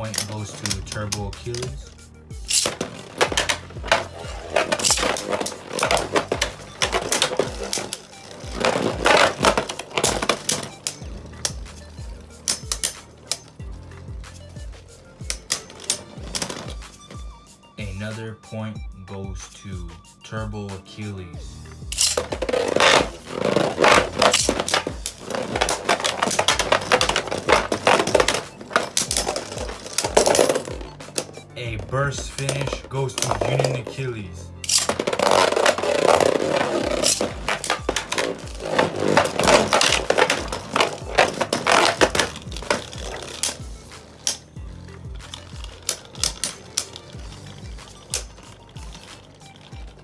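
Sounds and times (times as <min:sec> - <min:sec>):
spinning tops clashing: 0:00.0 - 0:17.2, 0:21.8 - 0:50.0
background music with steady beat: 0:00.0 - 0:50.0.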